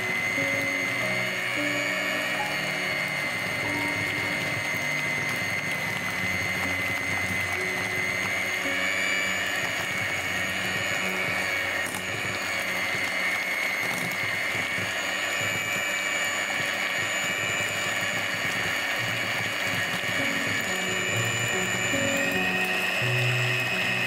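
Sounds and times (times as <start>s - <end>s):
electric hand mixer whirring: 0.0s - 24.0s.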